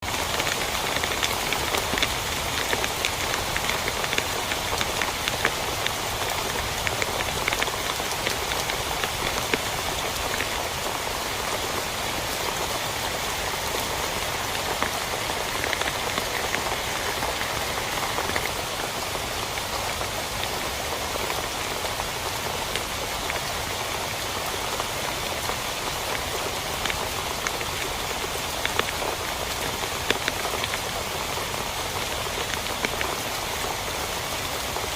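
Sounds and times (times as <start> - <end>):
heavy rain drumming on a tent: 0.0 - 34.9.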